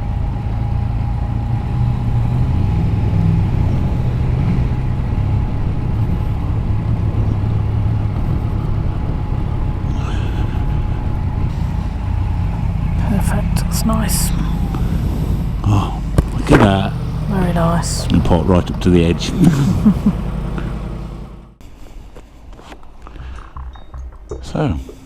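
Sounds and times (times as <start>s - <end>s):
faint steady whine: 0.0s - 21.6s
motorcycle engine running: 0.0s - 21.6s.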